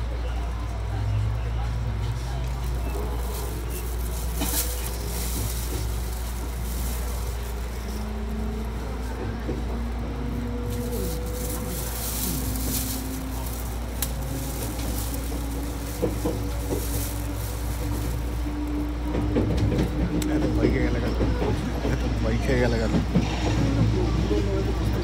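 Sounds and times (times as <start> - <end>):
train rumble inside carriage: 0.0 - 25.0.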